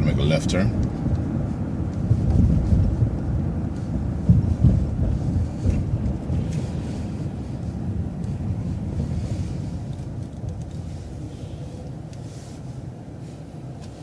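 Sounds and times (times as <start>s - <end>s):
bus engine rumble: 0.0s - 14.0s
low thumps and buffeting: 0.0s - 14.0s.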